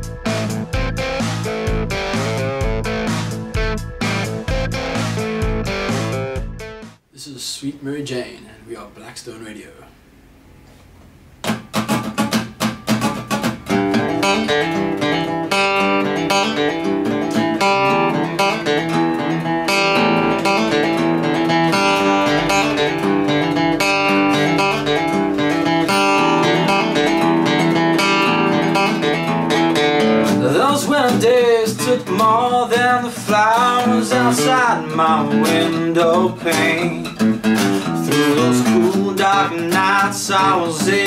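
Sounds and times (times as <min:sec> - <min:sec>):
acoustic guitar strumming and plucking: 0:00.0 - 0:07.0, 0:11.4 - 0:41.0.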